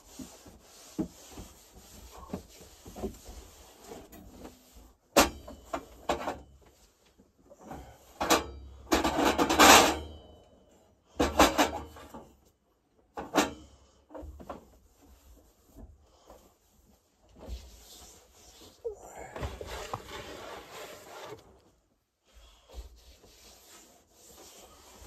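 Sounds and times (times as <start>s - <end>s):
scraping rustle: 0.0s - 10.1s, 14.4s - 25.0s.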